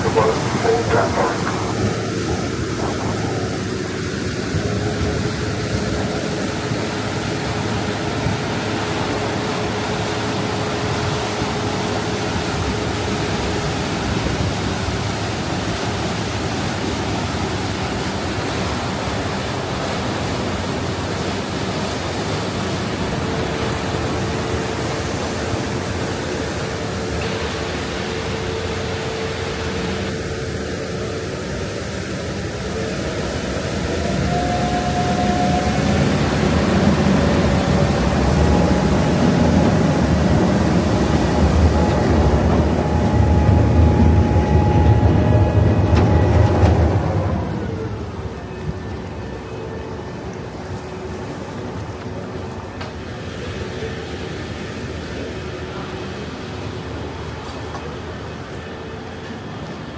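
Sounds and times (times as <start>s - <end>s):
boat engine and water rushing: 0.0s - 59.9s
constant hum: 0.0s - 59.9s.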